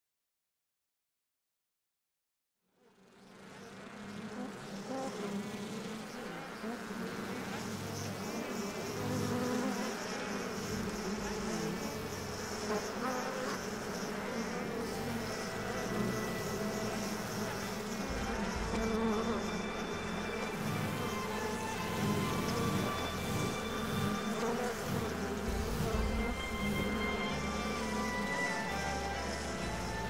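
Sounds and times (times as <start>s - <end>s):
bees buzzing: 3.2s - 30.0s.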